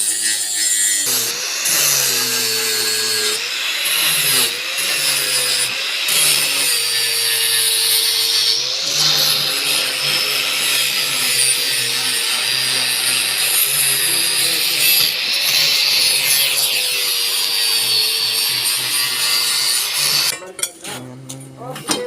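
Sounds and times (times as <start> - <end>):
angle grinder grinding steel: 0.0 - 22.0.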